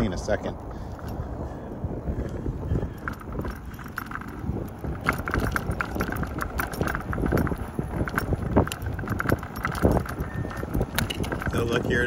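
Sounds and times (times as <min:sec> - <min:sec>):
bicycle rattling over concrete: 0:00.0 - 0:12.0.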